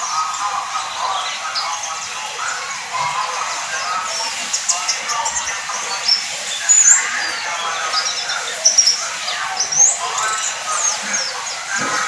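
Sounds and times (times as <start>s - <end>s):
bird twittering chirps: 0.0s - 12.0s.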